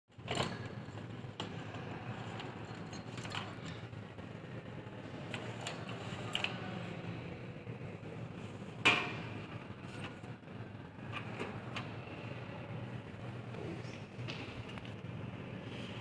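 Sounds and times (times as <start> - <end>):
steady low hum: 0.1 - 16.0.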